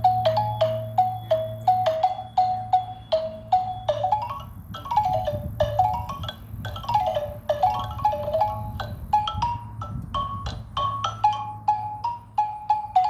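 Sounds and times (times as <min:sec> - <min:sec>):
steady low hum: 0:00.0 - 0:13.0
xylophone notes: 0:00.0 - 0:13.0.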